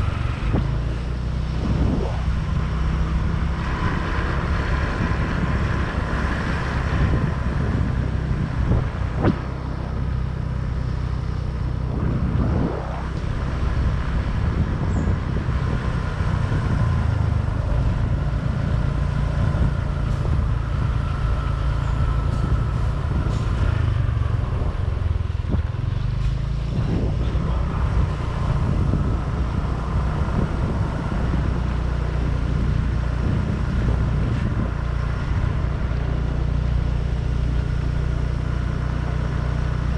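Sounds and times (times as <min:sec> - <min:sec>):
motorbike engine: 0:00.0 - 0:39.9
wind noise: 0:00.0 - 0:39.9.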